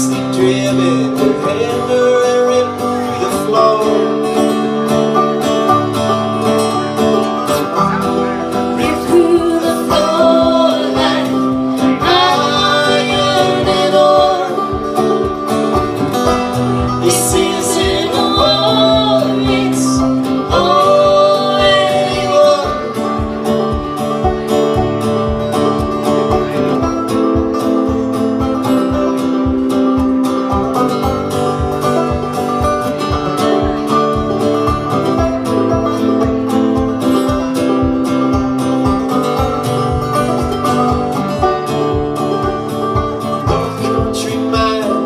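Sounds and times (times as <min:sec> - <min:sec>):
sliding melody line: 0:00.0 - 0:45.0
strummed acoustic guitar: 0:00.0 - 0:45.0.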